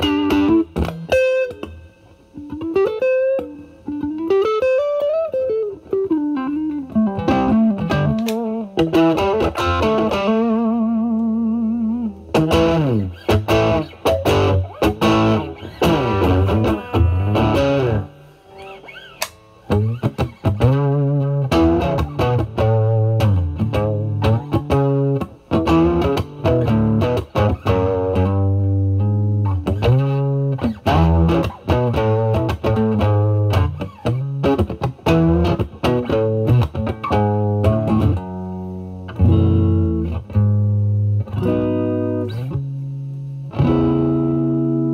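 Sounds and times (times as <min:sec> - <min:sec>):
overdriven electric guitar lead: 0:00.0 - 0:44.9.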